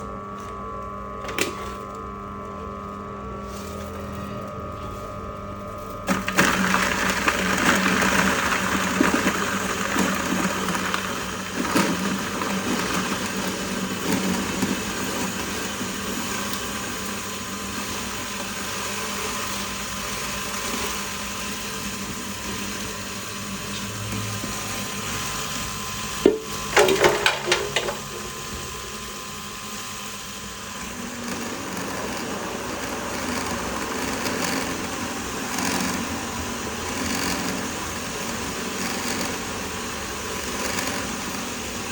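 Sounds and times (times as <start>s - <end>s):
feed grinder running: 3.4s - 41.9s.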